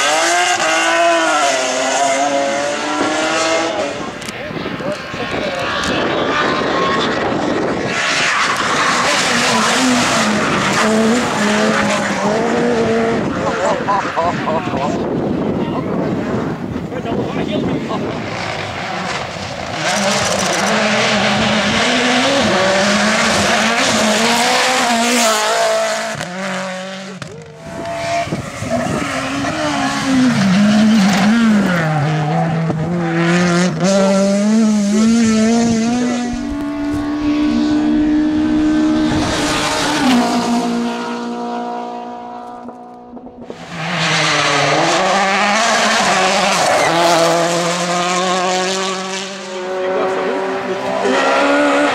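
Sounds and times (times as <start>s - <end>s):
rally car engines revving hard: 0.0s - 51.9s.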